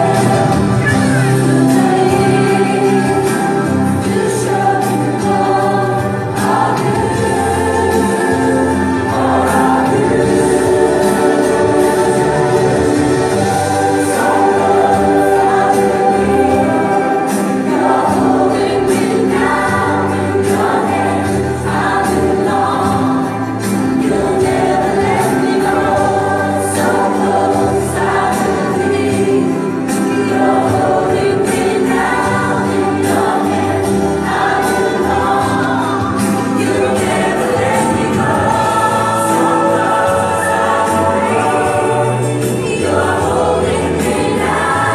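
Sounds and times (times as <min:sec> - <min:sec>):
gospel choir song over loudspeakers: 0:00.0 - 0:44.9.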